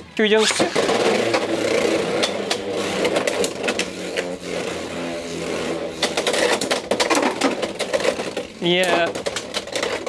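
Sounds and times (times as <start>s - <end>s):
spinning tops whirring: 0.3s - 10.0s.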